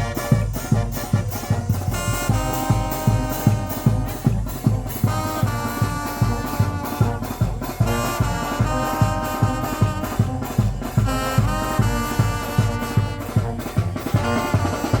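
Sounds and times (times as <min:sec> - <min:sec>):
brass band playing carnival music: 0:00.0 - 0:15.0
steady drum beat: 0:00.0 - 0:15.0.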